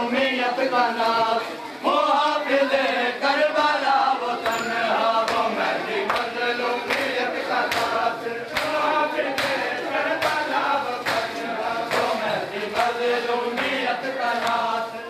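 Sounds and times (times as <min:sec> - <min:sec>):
crowd chanting a lament: 0:00.0 - 0:15.0.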